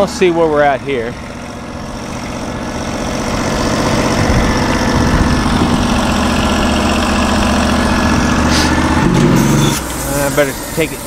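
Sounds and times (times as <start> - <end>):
gasoline engine idling: 0.0 - 11.0.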